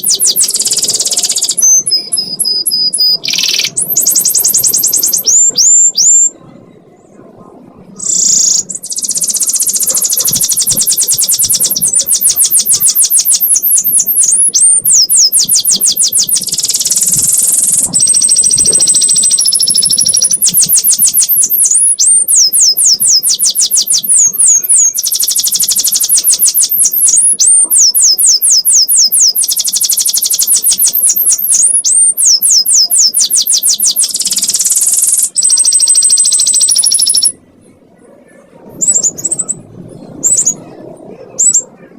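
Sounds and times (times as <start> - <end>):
canary singing trills: 0.0 - 7.0, 8.0 - 37.4, 38.6 - 41.9.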